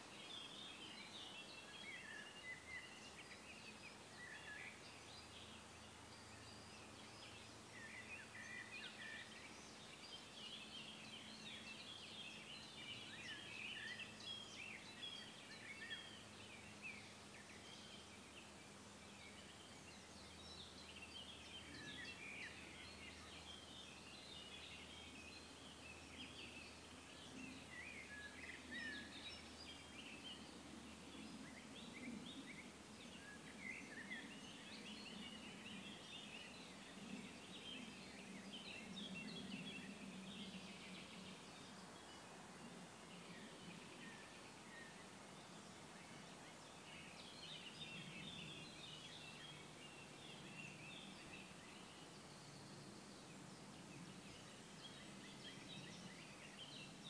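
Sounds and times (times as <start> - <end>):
low steady outdoor hum: 0.0 - 57.0
small birds chirping: 0.0 - 57.0.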